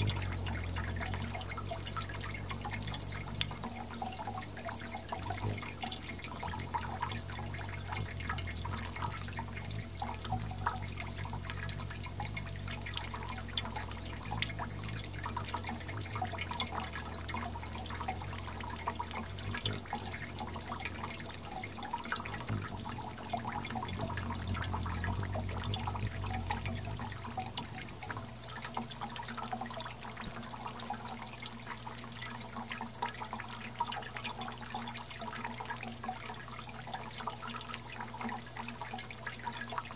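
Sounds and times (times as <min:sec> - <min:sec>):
low hum: 0:00.0 - 0:32.8
falling drops patter: 0:00.0 - 0:39.9
fountain water trickling: 0:00.0 - 0:39.9.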